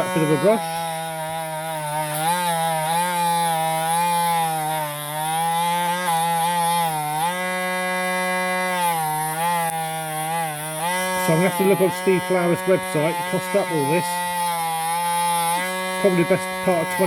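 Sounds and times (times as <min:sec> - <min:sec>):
rotary tool wire brush whine: 0:00.0 - 0:17.0.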